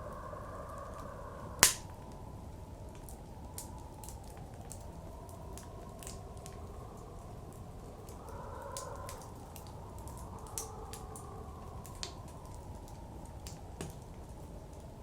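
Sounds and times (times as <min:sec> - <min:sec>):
blizzard wind blowing: 0:00.0 - 0:15.0
wood fire crackling and popping: 0:00.8 - 0:15.0.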